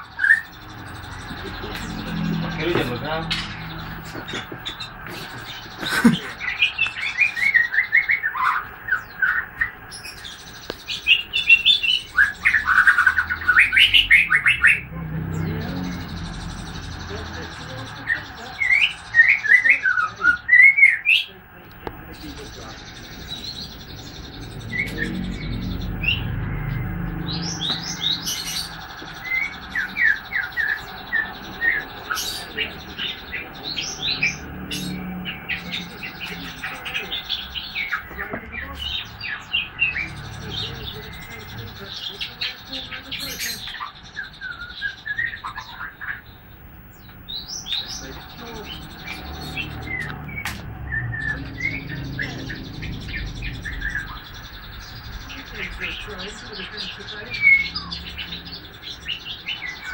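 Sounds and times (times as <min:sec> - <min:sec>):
bird singing chirping notes: 0:00.0 - 0:59.9.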